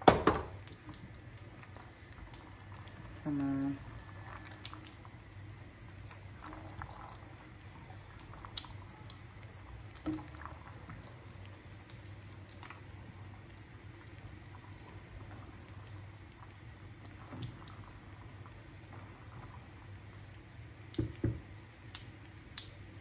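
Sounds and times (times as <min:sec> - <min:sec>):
liquid stirring in a pot: 0:00.6 - 0:21.2.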